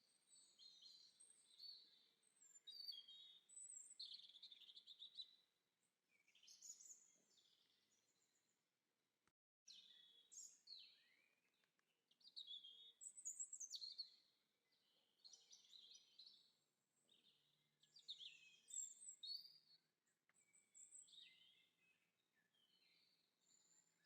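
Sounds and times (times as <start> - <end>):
songbirds chirping and warbling: 0.0 - 5.5, 6.1 - 8.5, 9.7 - 24.0.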